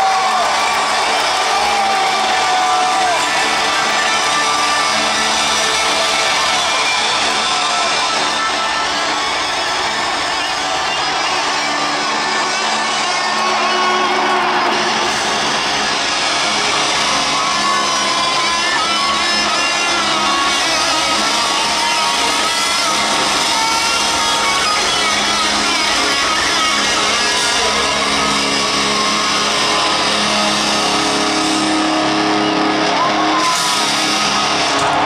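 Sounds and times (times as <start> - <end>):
electric guitar: 0.0 - 35.0
hard rock band playing loudly: 0.0 - 35.0.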